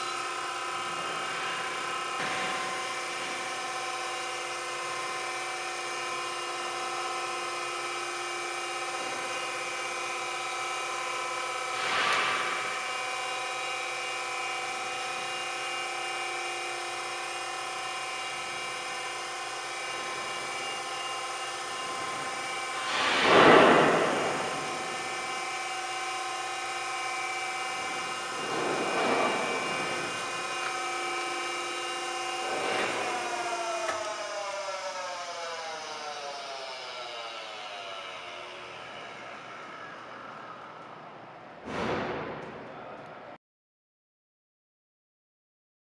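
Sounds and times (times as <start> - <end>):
surface grinder motor hum-whine: 0.0 - 41.5.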